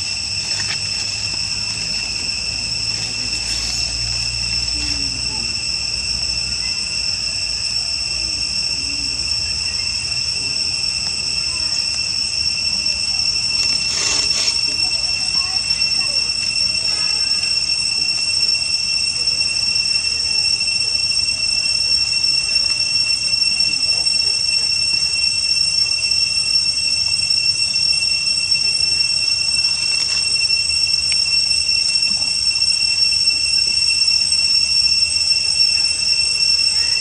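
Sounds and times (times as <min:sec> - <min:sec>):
shrill insect drone: 0:00.0 - 0:37.0.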